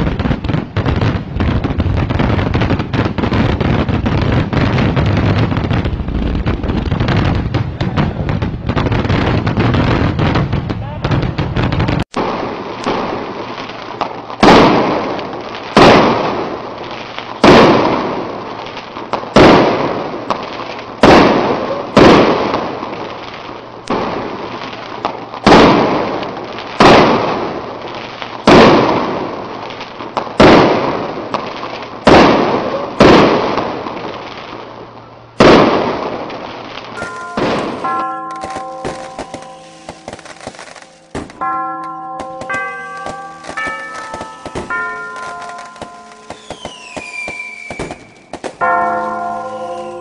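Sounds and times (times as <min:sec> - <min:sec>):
firework bangs with echo: 0:00.0 - 0:50.0.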